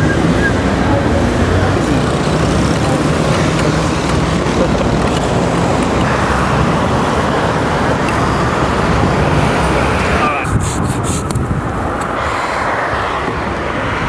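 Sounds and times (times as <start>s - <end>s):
road traffic rushing: 0.0s - 14.0s.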